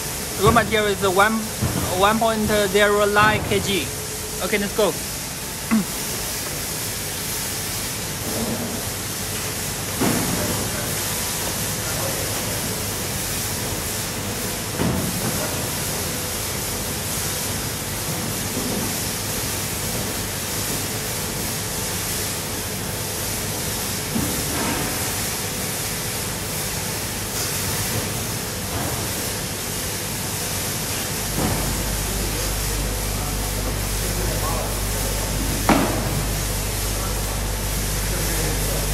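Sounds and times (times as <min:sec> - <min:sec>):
sorting machine rushing hiss: 0:00.0 - 0:38.9.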